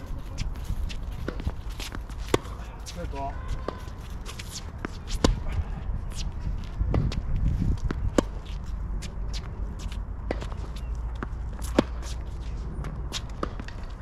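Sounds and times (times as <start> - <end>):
steady low rumble: 0.0 - 14.0
tennis balls struck by racquets: 0.9 - 14.0.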